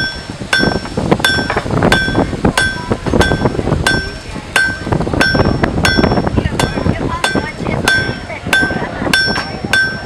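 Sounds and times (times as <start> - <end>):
hammer striking metal on anvil: 0.0 - 10.0.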